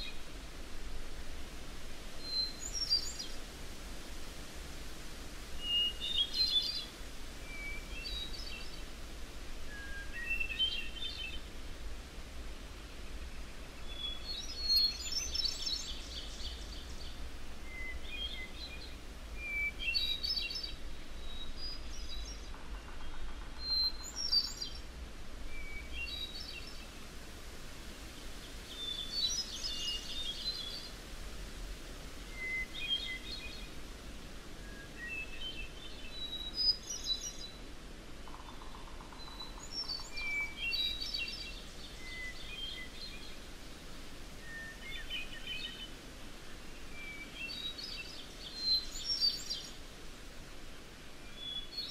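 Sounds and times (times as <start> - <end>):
low background hiss: 0.0 - 51.9
songbirds singing: 2.2 - 3.5, 5.6 - 31.0, 31.6 - 51.9.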